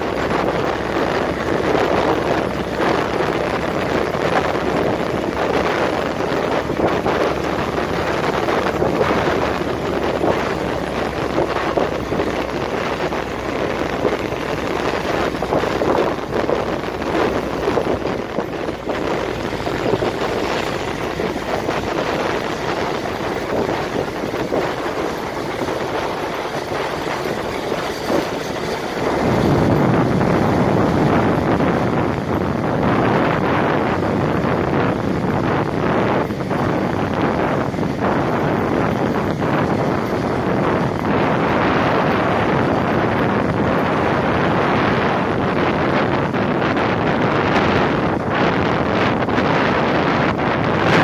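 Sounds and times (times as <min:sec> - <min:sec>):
jeep engine on gravel: 0:00.0 - 0:51.0
wind buffeting microphone: 0:00.0 - 0:51.0.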